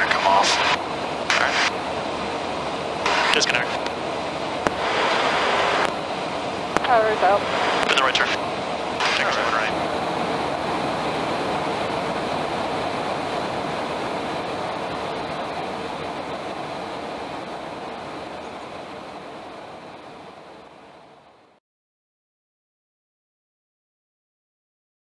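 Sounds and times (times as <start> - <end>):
jet engines and rushing air: 0.0 - 21.6.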